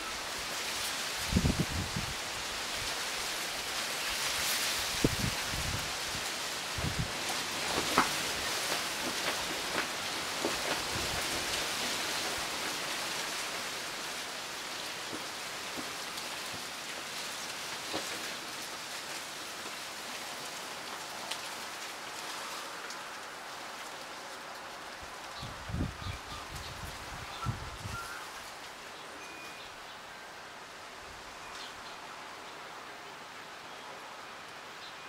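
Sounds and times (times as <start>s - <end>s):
wind rustling through trees: 0.0s - 35.0s.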